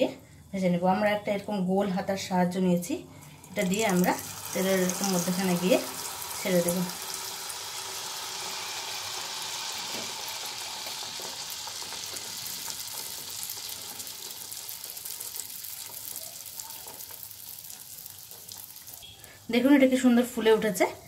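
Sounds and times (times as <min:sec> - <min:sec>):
batter sizzling in hot oil: 0:03.2 - 0:21.0.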